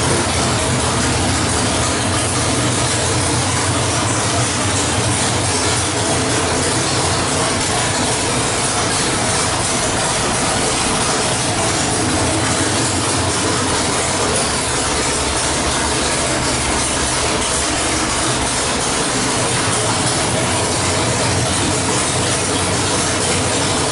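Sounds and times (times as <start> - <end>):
loud engine running steadily: 0.0 - 23.9.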